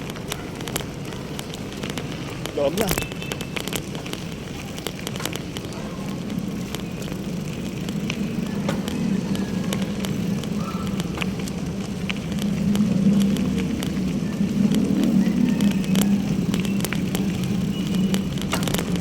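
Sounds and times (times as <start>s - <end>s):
passing vehicle engines hum: 0.0s - 19.0s
road noise: 0.0s - 19.0s.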